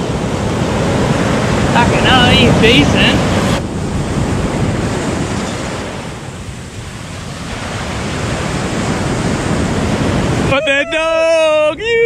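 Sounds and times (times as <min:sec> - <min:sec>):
surf washing up sand: 0:00.0 - 0:12.0.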